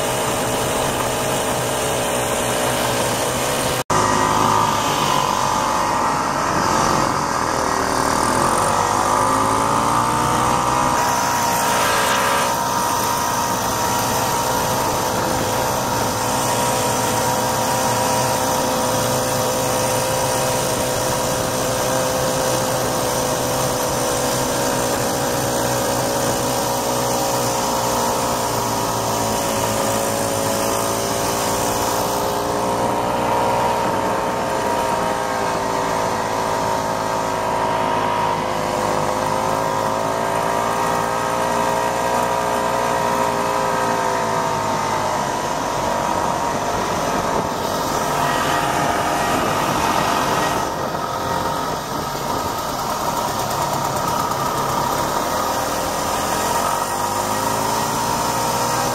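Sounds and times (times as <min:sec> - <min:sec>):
snowmobile two-stroke engine running: 0:00.0 - 0:58.9.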